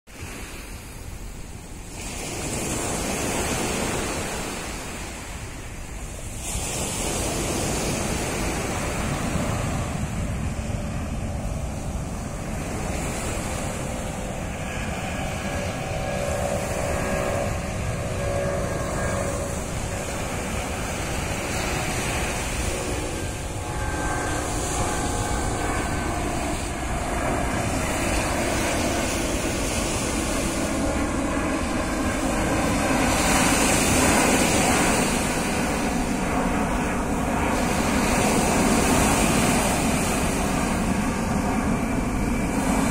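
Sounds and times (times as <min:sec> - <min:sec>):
surf washing onto beach: 0:00.1 - 0:42.9
airplane engines whining: 0:00.2 - 0:42.9
wind buffeting microphone: 0:00.2 - 0:42.9.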